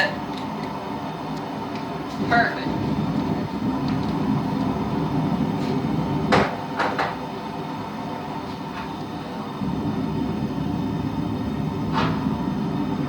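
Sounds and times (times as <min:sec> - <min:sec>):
steady rumble: 0:00.0 - 0:13.0.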